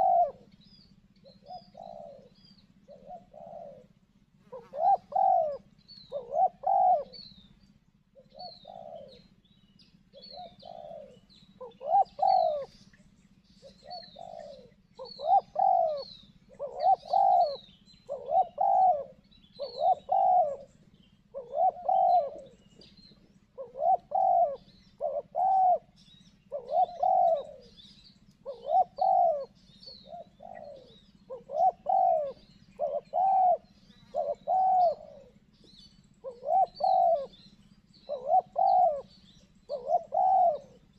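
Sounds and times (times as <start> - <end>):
doves cooing: 0.0 - 40.9
small birds chirping faintly: 0.0 - 40.9.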